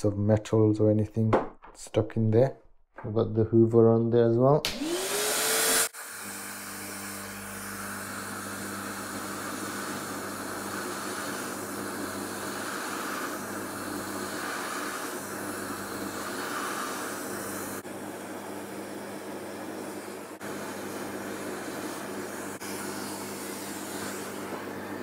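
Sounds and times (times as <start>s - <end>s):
polishing motor humming: 4.7s - 25.0s
vacuum hissing: 4.7s - 25.0s.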